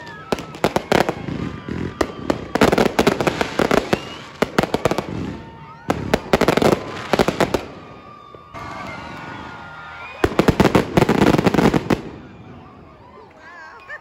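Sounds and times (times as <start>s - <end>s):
fireworks bangs and crackling: 0.0s - 13.2s.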